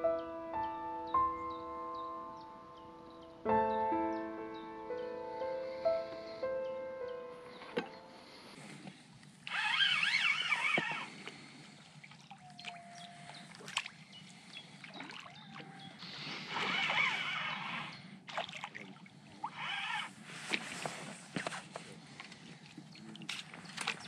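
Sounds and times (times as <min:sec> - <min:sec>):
songbirds warbling: 0:00.0 - 0:18.3, 0:19.0 - 0:20.8.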